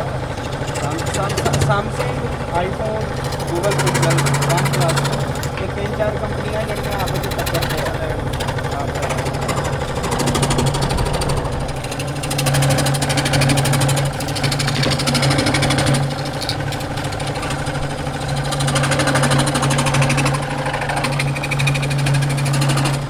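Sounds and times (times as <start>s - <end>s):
machine humming and chugging: 0.0s - 23.0s.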